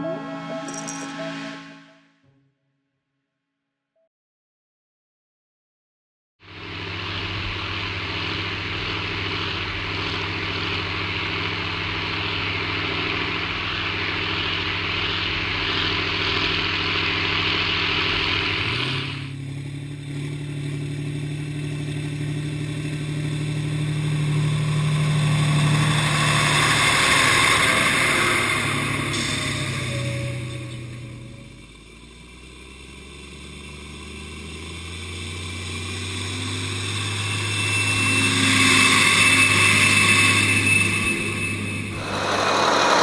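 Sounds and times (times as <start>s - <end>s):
tractor diesel engines under load: 6.4s - 43.0s.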